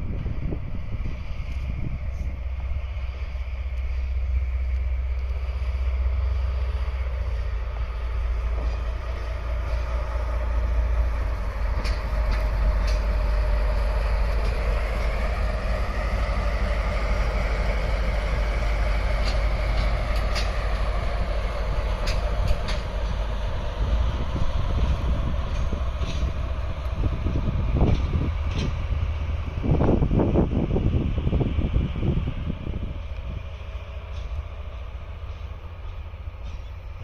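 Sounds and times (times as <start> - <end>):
diesel locomotive rumble: 0.0 - 37.0
wheels clicking over rail joints: 1.4 - 37.0.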